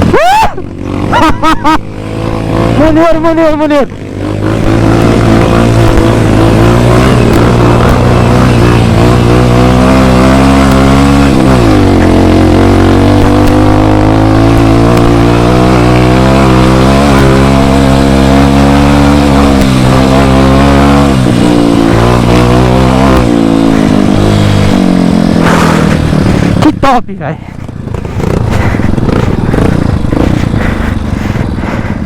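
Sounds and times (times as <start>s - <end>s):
dirt bike engine running: 0.0s - 32.0s.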